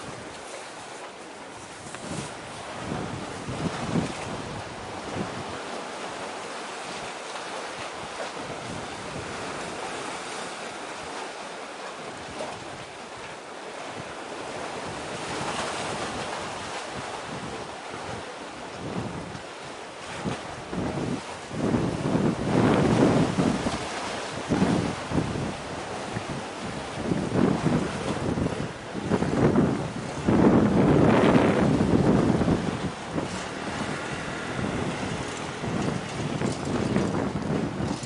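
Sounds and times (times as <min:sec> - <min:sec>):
wind buffeting microphone: 0:00.0 - 0:07.2, 0:07.8 - 0:11.3, 0:12.0 - 0:38.0
hiss of wind and sea: 0:00.0 - 0:38.0.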